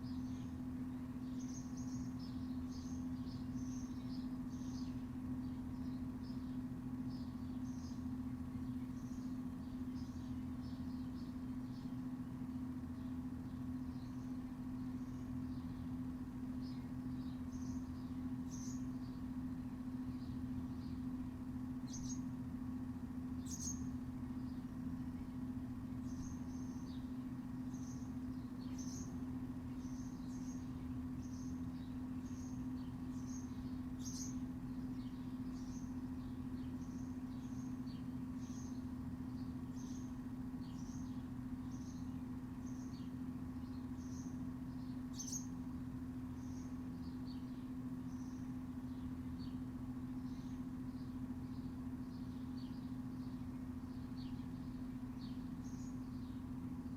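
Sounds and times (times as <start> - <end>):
low mechanical hum: 0.0 - 56.9
small birds chirping: 0.0 - 56.9.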